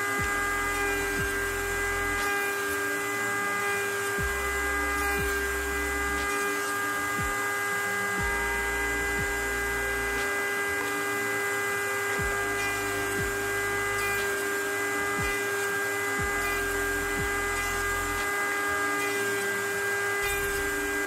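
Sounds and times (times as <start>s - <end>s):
router motor whine: 0.0s - 21.0s.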